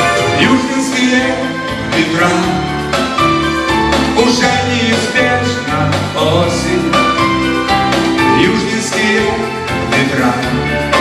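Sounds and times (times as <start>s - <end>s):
bass guitar: 0.0s - 11.0s
electric guitars: 0.0s - 11.0s
keyboards: 0.0s - 11.0s.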